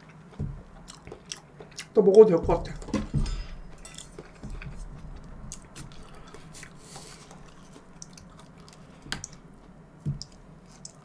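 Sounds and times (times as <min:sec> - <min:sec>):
person chewing fruit: 0:00.0 - 0:02.9, 0:03.7 - 0:11.0.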